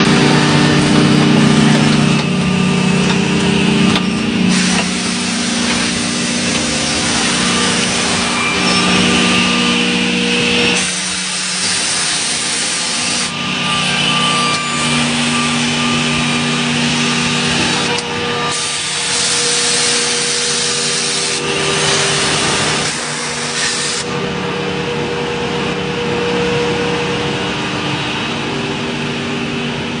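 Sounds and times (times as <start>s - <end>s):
cnc router cutting wood: 0.0s - 30.0s.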